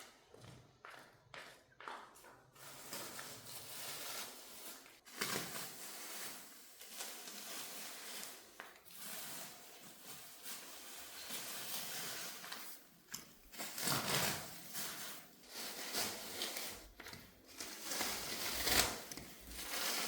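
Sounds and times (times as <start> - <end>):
rough rubbing on hard floor: 2.6 - 20.0.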